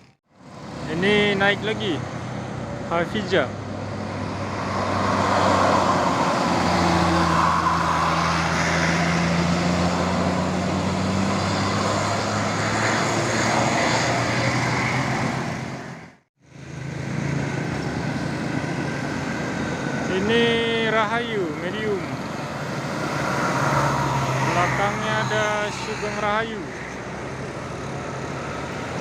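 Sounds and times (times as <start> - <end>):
diesel bus engine running hard: 0.0 - 29.0
road and tyre noise: 0.0 - 29.0.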